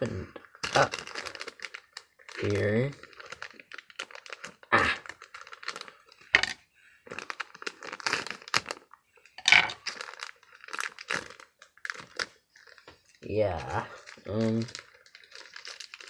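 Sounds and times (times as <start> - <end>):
plastic packaging crinkling and tearing: 0.4 - 13.2, 13.8 - 16.0.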